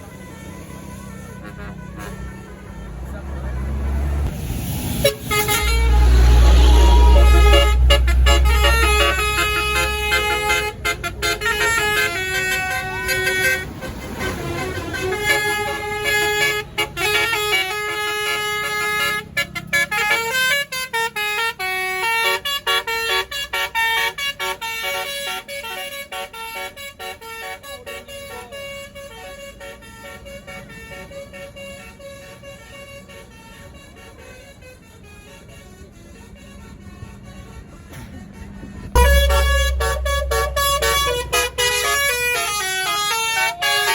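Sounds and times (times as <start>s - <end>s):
bus engine running: 0.0s - 43.9s
multi-tone bus horn melody: 0.0s - 43.9s.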